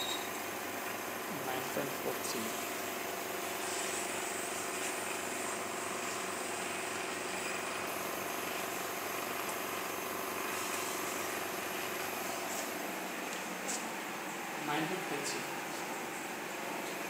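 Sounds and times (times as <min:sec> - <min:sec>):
lab instrument whirring and hissing: 0:00.0 - 0:17.0.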